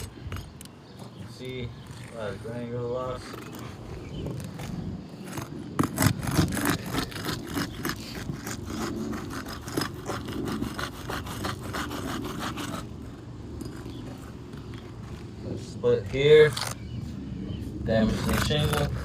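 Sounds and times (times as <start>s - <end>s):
roofing tool scraping shingles: 1.8s - 16.8s, 17.9s - 19.0s.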